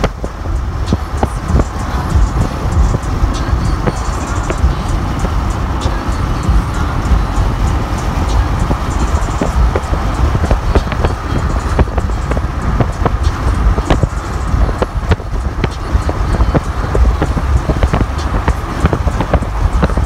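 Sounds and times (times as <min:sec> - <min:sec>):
car road rumble: 0:00.0 - 0:20.0
wind buffeting microphone: 0:00.0 - 0:20.0.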